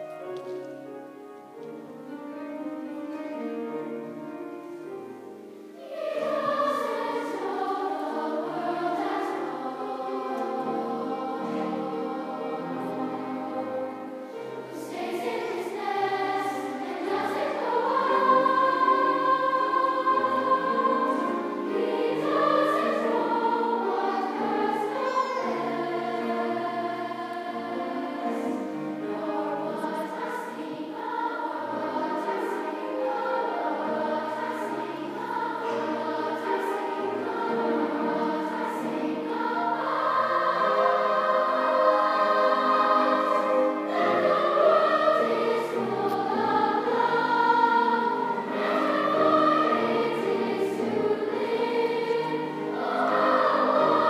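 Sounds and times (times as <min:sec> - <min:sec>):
children's choir singing: 0:00.0 - 0:54.0
grand piano accompaniment: 0:00.0 - 0:54.0.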